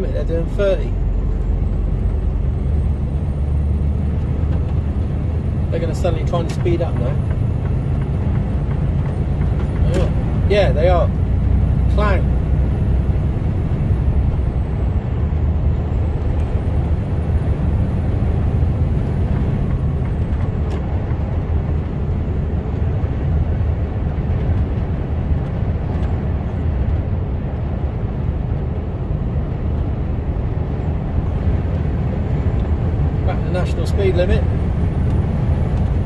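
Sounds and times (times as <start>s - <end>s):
lorry engine and road noise: 0.0s - 36.0s.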